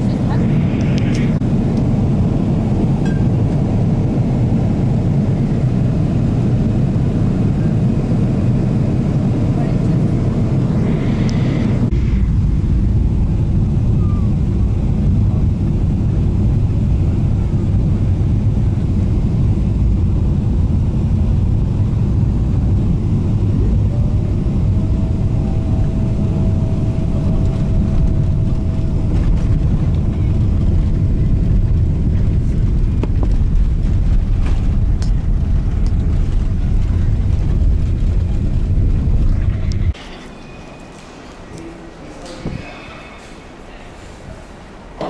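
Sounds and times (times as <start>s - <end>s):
airliner engines and airflow rumble: 0.0s - 45.0s
steady high whine: 0.0s - 45.0s.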